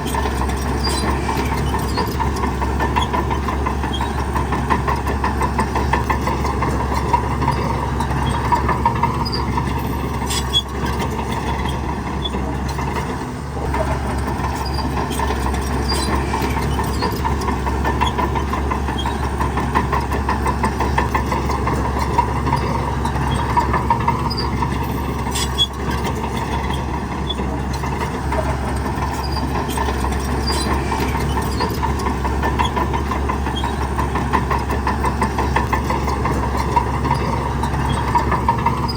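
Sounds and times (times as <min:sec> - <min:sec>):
heavy machinery diesel engine: 0:00.0 - 0:38.9.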